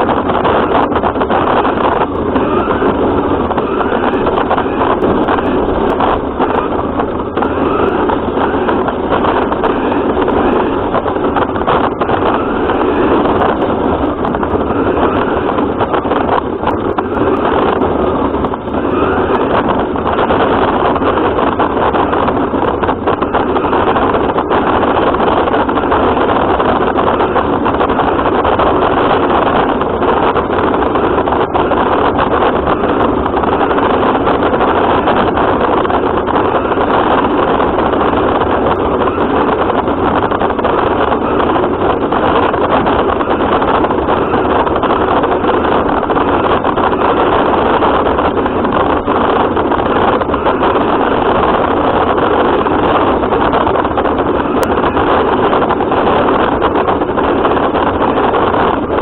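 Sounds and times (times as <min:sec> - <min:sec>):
radio-controlled car running: 0:00.0 - 0:59.0.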